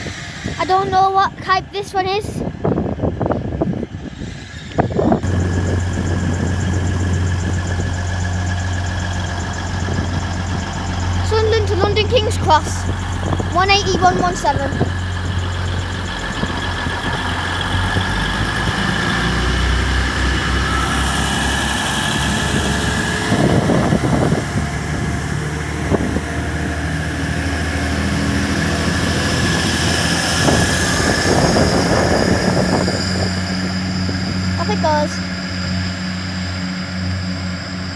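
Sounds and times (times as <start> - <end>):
diesel engines droning: 0.0 - 37.9.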